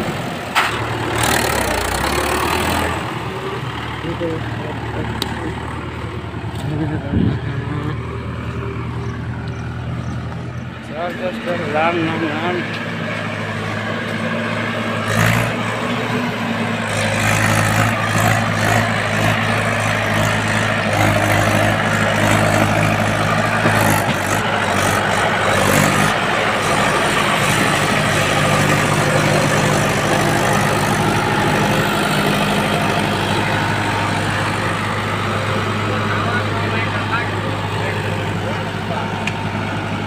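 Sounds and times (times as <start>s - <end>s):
tractor diesel engine passing: 0.0s - 40.0s.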